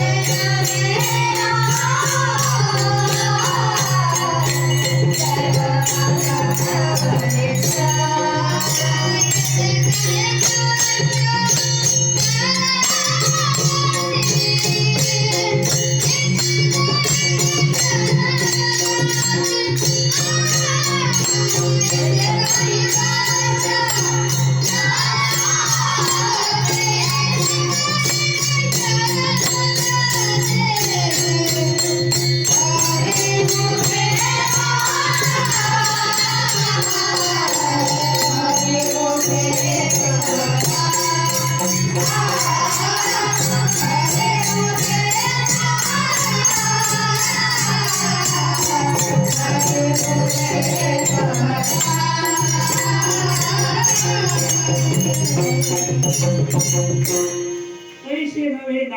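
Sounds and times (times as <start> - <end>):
man singing devotional song: 0.0 - 56.8, 58.0 - 58.9
small cymbals jingling: 0.0 - 58.6.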